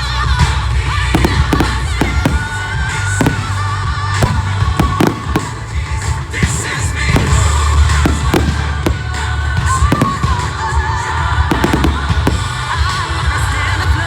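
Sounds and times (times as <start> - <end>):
bass-heavy music over sound system: 0.0 - 14.0
fireworks bursting: 0.0 - 14.0.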